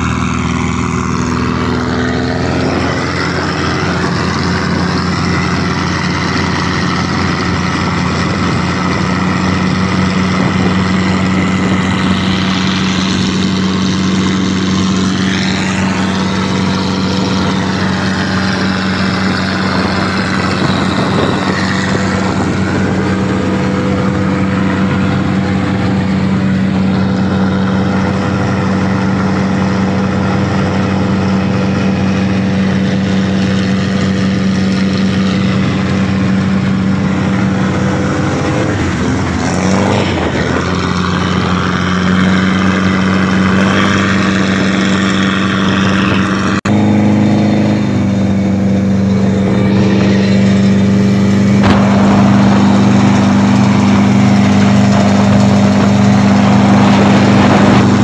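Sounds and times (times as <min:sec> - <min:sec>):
boat diesel engine running: 0:00.0 - 0:58.0
water rushing along hull: 0:00.0 - 0:58.0.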